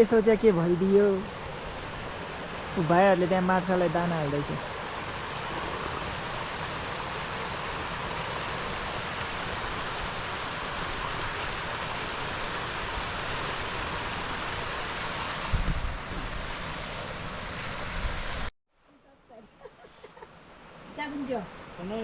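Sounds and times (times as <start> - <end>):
river water rushing: 0.0 - 18.5.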